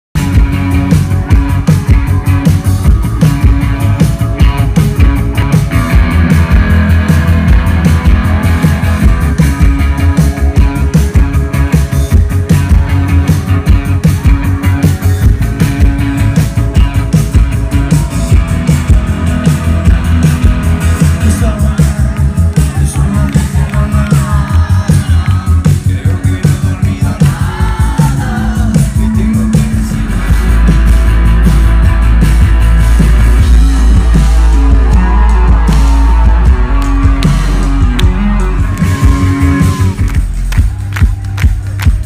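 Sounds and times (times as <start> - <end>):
drum beat: 0.2 - 42.0
rock band playing live: 0.2 - 42.0.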